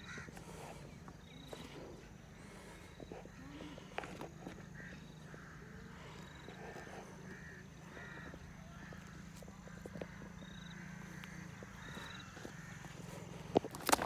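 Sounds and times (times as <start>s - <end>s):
faint birds calling: 0.0s - 14.0s.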